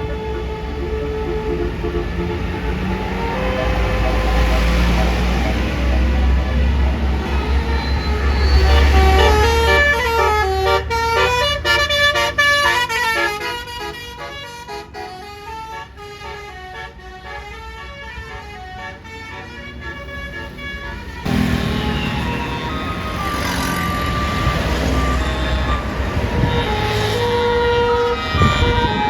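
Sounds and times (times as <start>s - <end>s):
bus horn melody: 0.0s - 29.0s
deep engine rumble: 0.0s - 29.0s
road noise rush: 0.0s - 29.0s.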